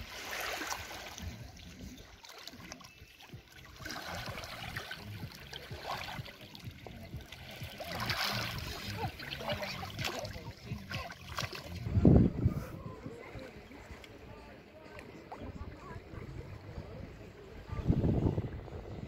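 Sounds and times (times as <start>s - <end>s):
seawater lapping at shore: 0.0s - 19.0s.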